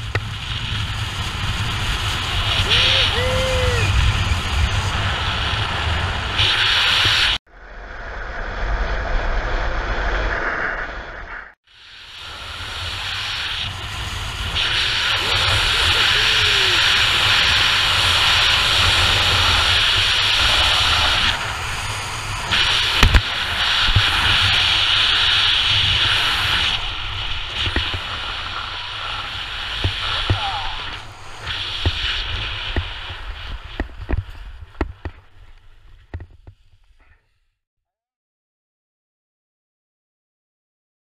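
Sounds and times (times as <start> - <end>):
skis sliding through snow: 0.0 - 7.4, 8.2 - 37.0
wind rushing over microphone: 0.0 - 36.5.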